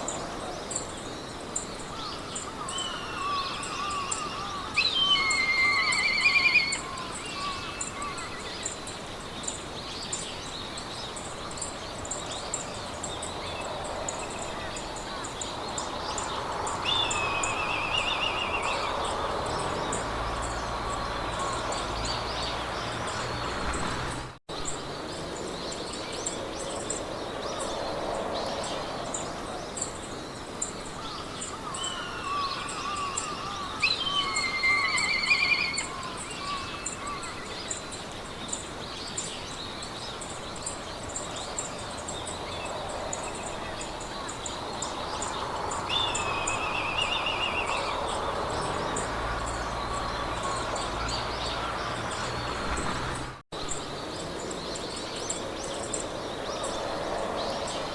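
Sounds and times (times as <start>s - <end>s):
birds warbling and trilling: 0.0s - 57.9s
insects chirping: 0.0s - 57.9s
wind-like hiss: 0.0s - 57.9s.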